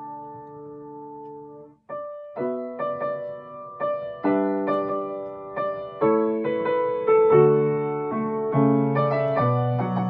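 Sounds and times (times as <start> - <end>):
grand piano playing pop song: 0.0 - 10.0.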